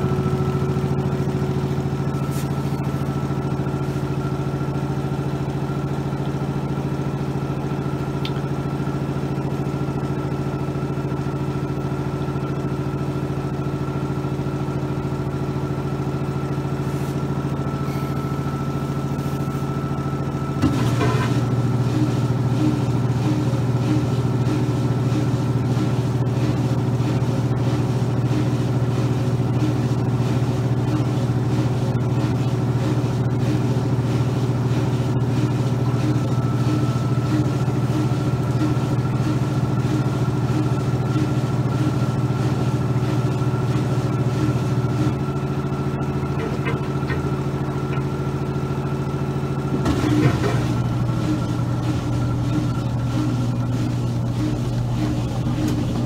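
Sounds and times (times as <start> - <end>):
dryer motor hum: 0.0 - 56.0.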